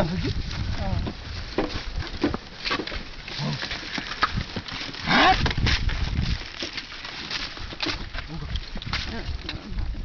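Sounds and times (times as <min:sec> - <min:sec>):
cart knocking and clattering: 0:01.0 - 0:09.7.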